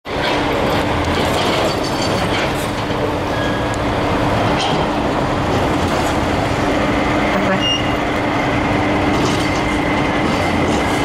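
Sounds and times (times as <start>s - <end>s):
heavy diesel engines rumbling: 0.1s - 11.0s.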